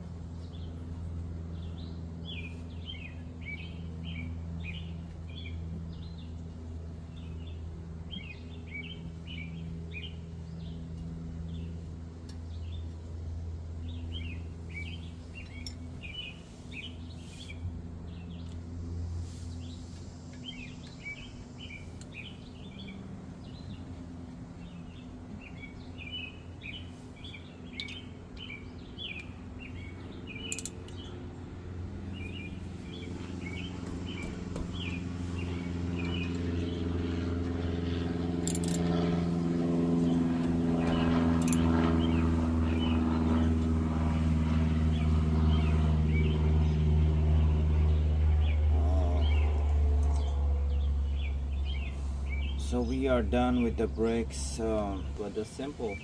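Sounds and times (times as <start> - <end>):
steady low hum: 0.0 - 56.0
small birds chirping: 0.3 - 39.2, 39.8 - 56.0.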